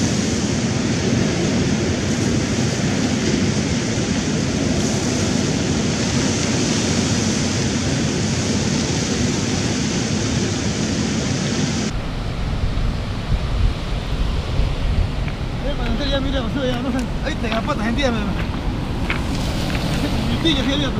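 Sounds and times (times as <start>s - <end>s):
ocean surf breaking on cobbles: 0.0s - 20.9s
wind rumbling on microphone: 0.0s - 20.9s.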